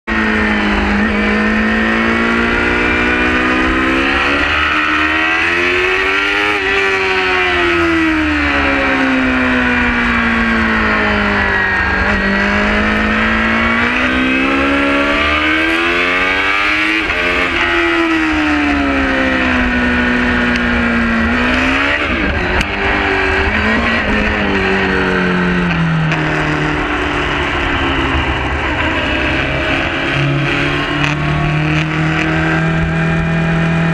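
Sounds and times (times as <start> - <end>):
motorcycle engine at high revs: 0.1 - 33.9.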